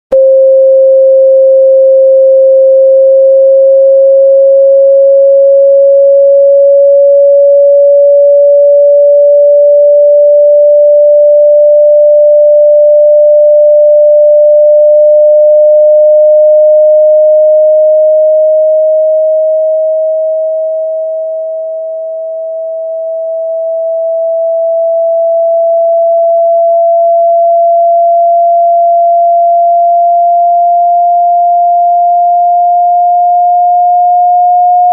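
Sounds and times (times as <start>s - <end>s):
rising sine tone: 0.1s - 34.9s.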